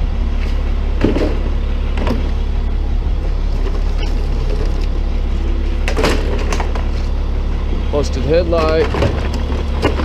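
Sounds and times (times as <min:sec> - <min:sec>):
truck engine idling: 0:00.0 - 0:10.0
car parts rustling and clattering: 0:00.2 - 0:10.0.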